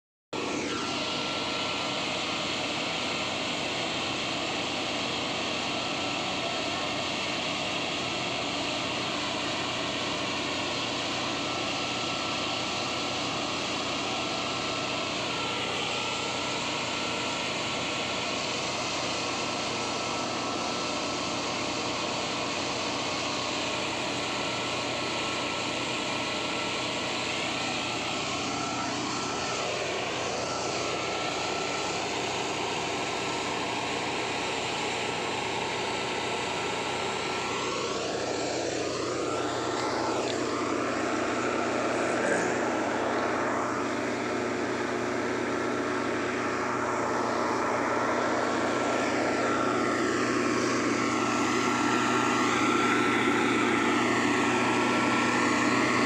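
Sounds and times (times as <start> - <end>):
rail-welding equipment roaring: 0.4 - 56.0.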